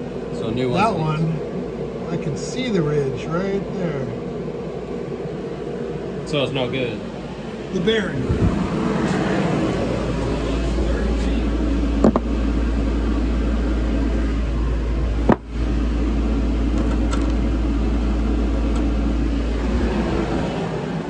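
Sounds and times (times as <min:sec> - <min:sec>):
low mechanical drone: 0:00.0 - 0:21.0.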